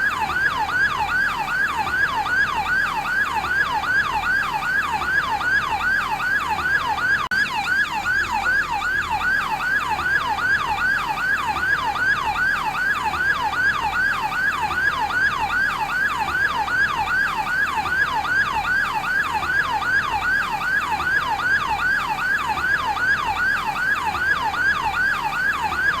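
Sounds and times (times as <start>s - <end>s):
yelp siren: 0.0s - 26.0s.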